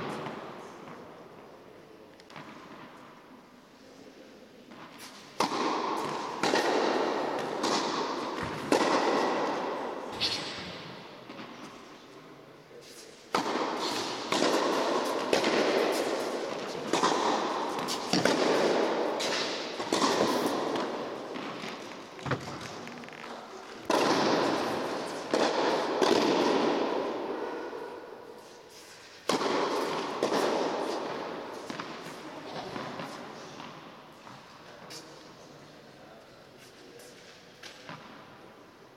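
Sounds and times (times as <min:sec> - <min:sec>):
racket hitting tennis balls: 0:00.0 - 0:01.5, 0:02.1 - 0:03.1, 0:04.7 - 0:12.0, 0:12.8 - 0:35.2, 0:37.0 - 0:38.2.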